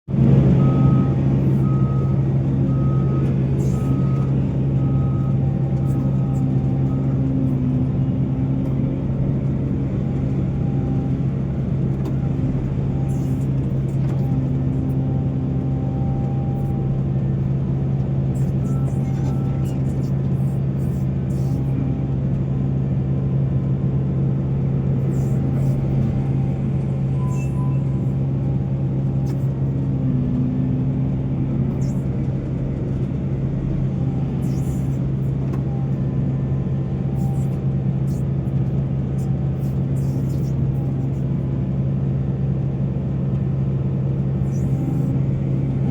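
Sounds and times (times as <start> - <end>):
diesel machinery engine drone: 0.0 - 45.9.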